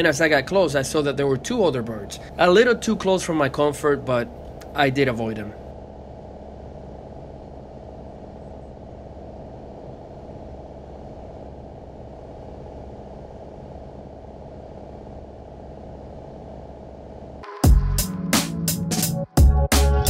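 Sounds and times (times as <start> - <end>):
light airplane engine droning: 0.0 - 17.4.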